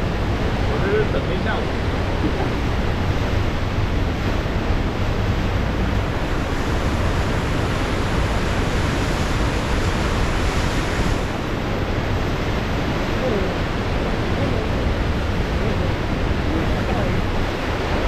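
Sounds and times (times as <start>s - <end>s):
waves breaking: 0.0s - 18.0s
wind rumble on microphone: 0.0s - 18.0s.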